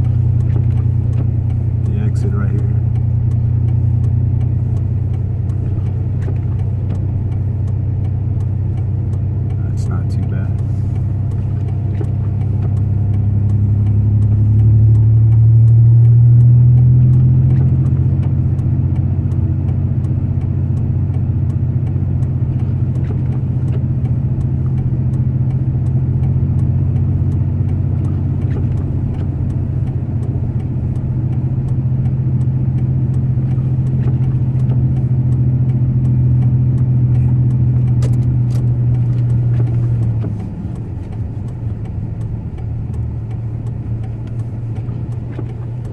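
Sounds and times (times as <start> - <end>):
truck engine and road noise: 0.0 - 45.9.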